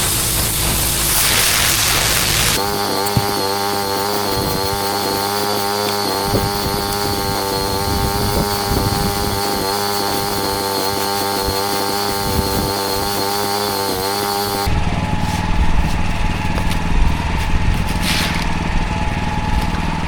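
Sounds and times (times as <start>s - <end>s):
pressure washer engine running: 0.0s - 20.0s.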